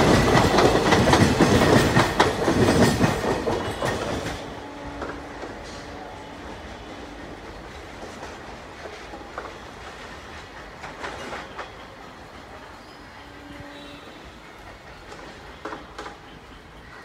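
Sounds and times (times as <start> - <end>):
train coaches rolling on track: 0.0 - 17.0.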